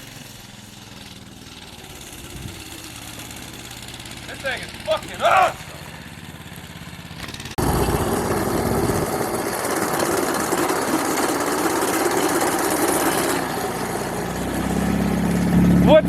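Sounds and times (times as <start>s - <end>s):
vehicle engine revving hard: 1.5s - 16.0s.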